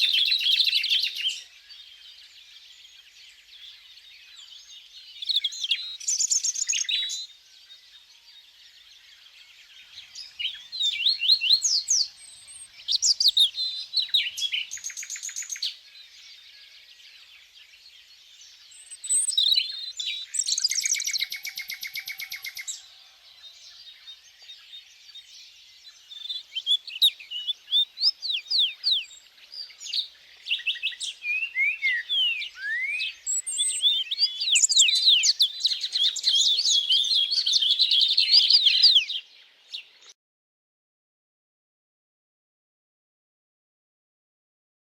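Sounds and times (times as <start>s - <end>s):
small songbirds chirping: 0.0s - 40.2s.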